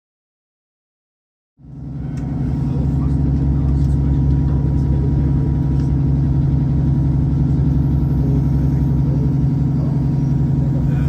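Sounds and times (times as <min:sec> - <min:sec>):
train diesel engine humming: 0:01.6 - 0:11.0.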